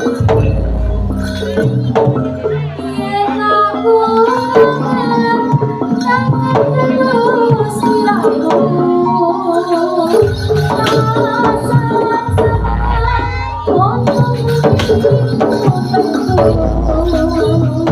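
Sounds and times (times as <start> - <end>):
gamelan ensemble playing: 0.0 - 17.9.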